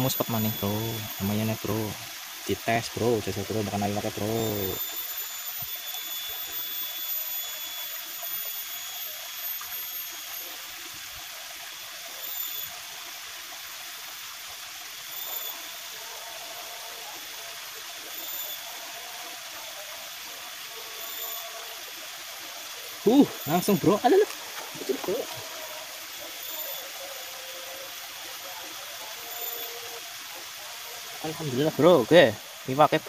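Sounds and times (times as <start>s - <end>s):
muddy water flowing: 0.0s - 5.0s, 9.6s - 33.0s.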